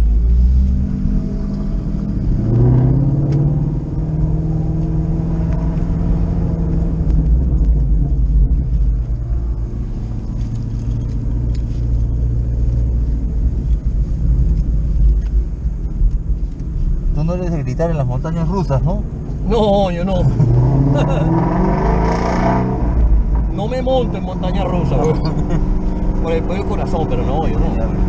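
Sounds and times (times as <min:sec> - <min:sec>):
car engine rumble from inside: 0:00.0 - 0:28.0.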